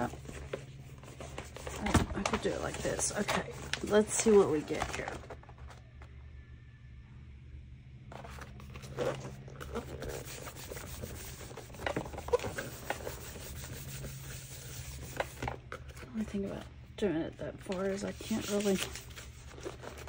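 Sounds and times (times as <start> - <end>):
hands rustling paper pages: 0.0 - 6.1, 8.1 - 16.1, 17.7 - 20.0.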